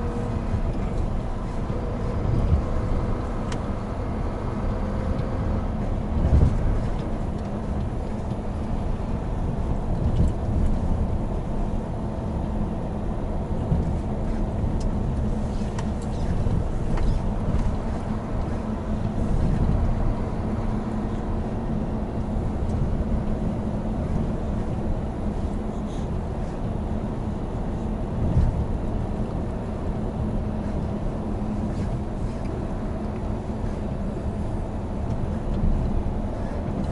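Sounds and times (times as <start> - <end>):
road and tyre rumble: 0.0 - 36.9
truck diesel engine running: 0.0 - 36.9.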